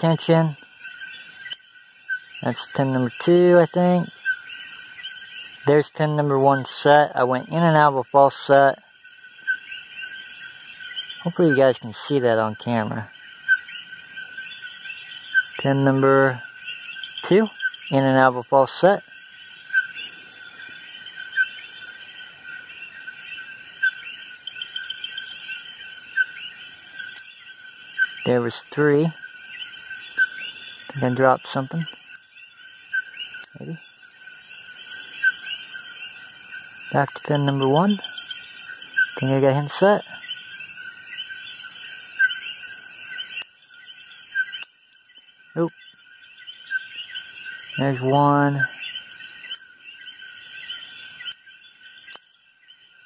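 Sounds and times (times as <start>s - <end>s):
insect chirp: 0.0s - 53.0s
insects trilling: 0.0s - 53.0s.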